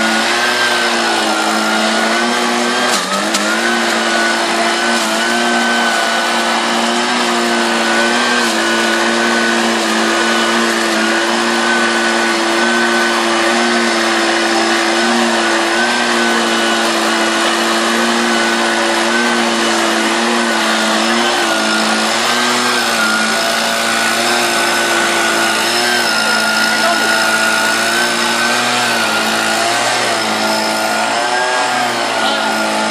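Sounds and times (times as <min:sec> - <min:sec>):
petrol leaf blower running: 0:00.0 - 0:32.9.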